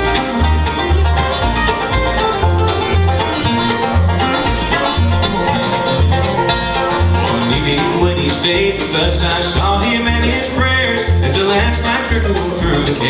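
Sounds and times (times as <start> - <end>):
banjo picking: 0.0 - 13.0
bluegrass band playing: 0.0 - 13.0.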